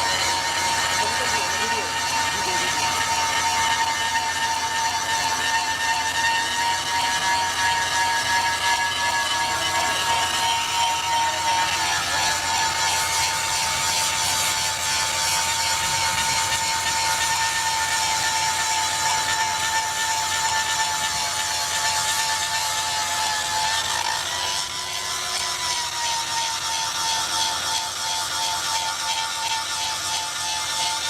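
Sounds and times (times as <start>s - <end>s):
power tool grinding steel: 0.0s - 31.0s.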